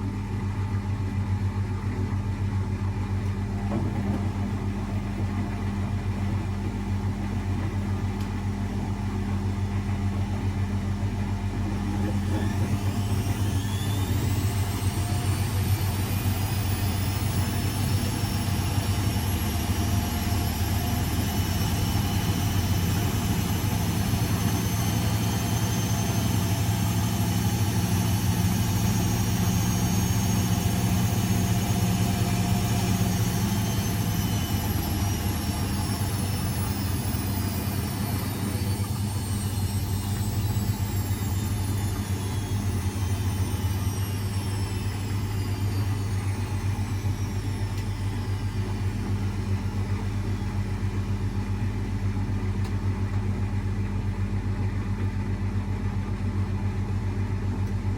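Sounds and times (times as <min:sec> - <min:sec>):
washing machine humming: 0:00.0 - 0:57.9
washing machine spin whine: 0:00.0 - 0:57.9.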